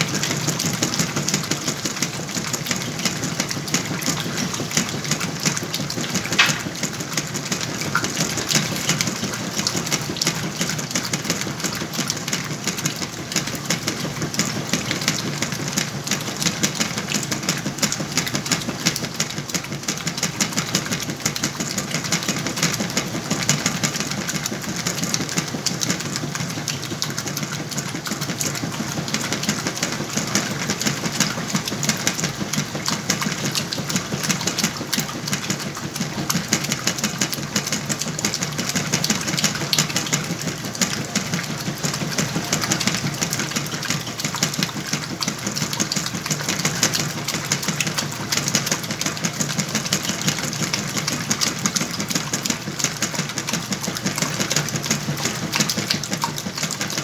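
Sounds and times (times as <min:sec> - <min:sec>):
washing machine churning: 0:00.0 - 0:57.0.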